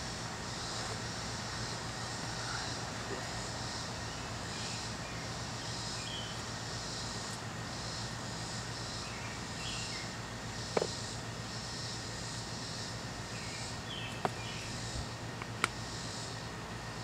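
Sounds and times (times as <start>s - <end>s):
insects buzzing: 0.0s - 17.0s
low continuous hum: 0.0s - 17.0s.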